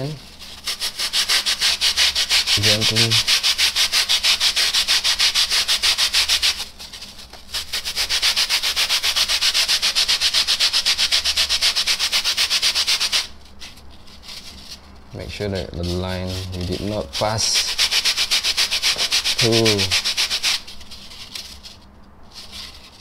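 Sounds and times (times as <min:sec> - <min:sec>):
sandpaper rubbing on foam: 0:00.0 - 0:23.0.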